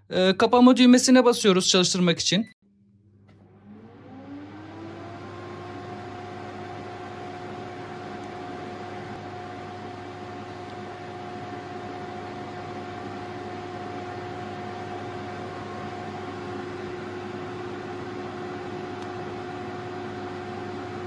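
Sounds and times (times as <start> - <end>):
air fryer fan whirring: 3.1 - 21.0.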